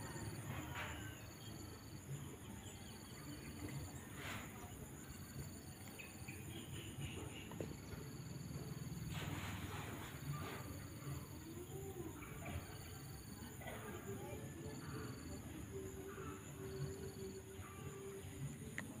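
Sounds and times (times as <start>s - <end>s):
insects trilling in pulses: 0.0s - 19.0s.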